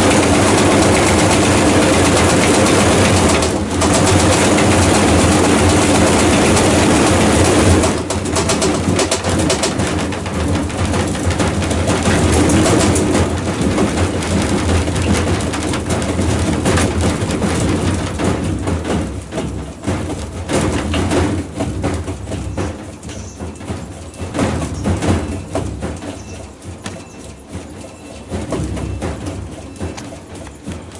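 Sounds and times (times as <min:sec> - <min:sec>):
washing machine humming: 0:00.0 - 0:30.9
washing machine rattling: 0:00.0 - 0:30.9.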